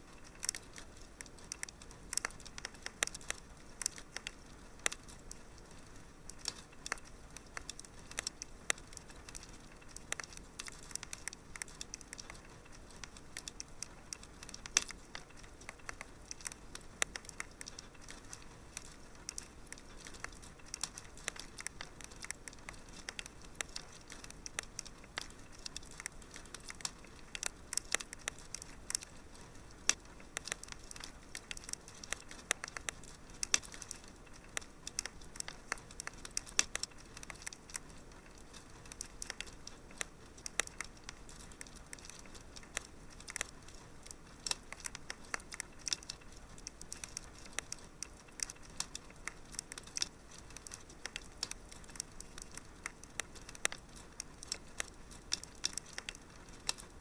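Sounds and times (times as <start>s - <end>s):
faint steady hiss: 0.0s - 57.0s
wood fire crackling: 0.0s - 57.0s.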